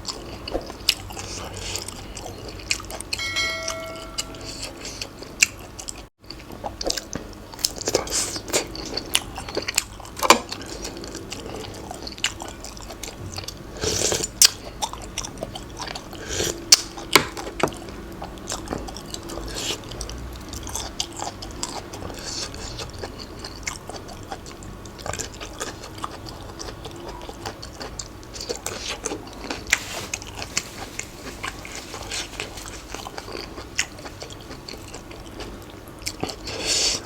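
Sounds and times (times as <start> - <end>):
person chewing and biting food: 4.5 - 37.0.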